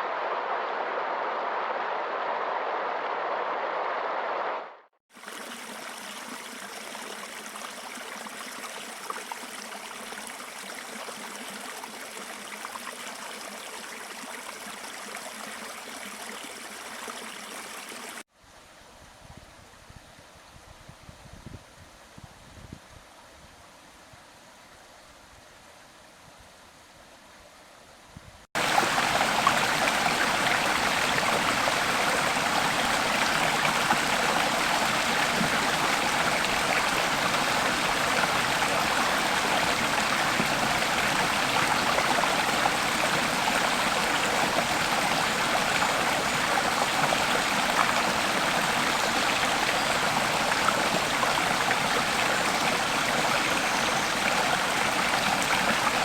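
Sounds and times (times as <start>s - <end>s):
stream flowing: 0.0s - 18.3s, 28.6s - 56.0s.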